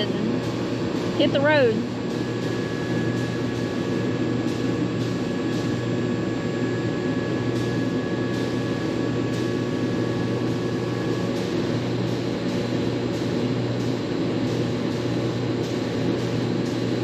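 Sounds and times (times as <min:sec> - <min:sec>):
faint steady whines: 0:00.0 - 0:17.0
low machine drone: 0:00.0 - 0:17.0.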